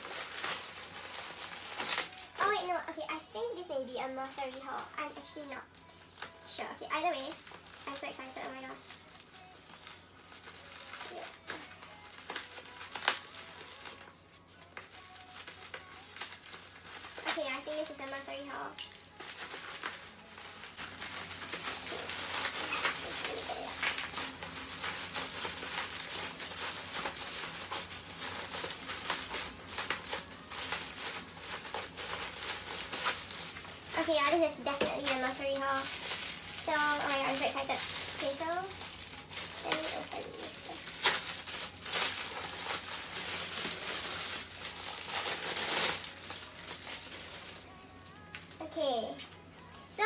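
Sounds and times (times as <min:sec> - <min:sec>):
bubble wrap crinkling and crackling: 0:00.0 - 0:49.5.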